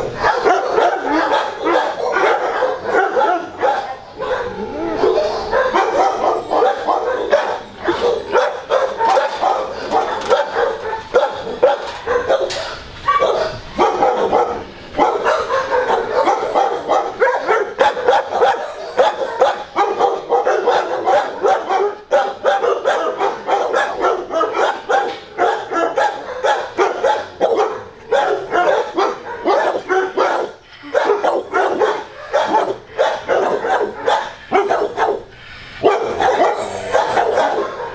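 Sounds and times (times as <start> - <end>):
dogs barking: 0.0 - 37.9.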